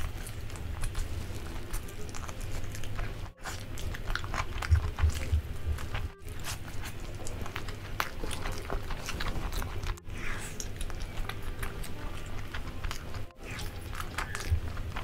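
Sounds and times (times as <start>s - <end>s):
person chewing chicken: 0.0s - 15.0s.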